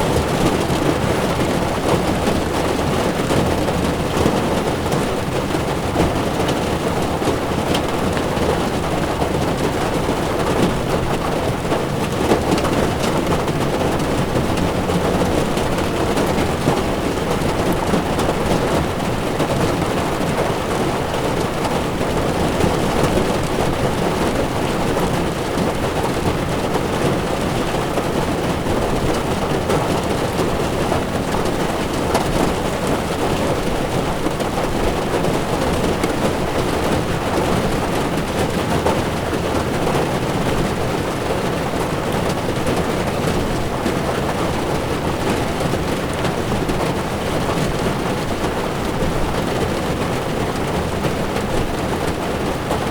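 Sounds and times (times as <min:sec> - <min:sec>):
heavy rain on car roof: 0:00.0 - 0:52.9.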